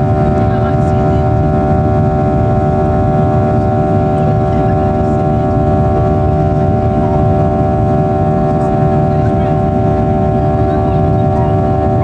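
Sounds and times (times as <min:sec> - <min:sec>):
jet engine roar in cabin: 0:00.0 - 0:12.0.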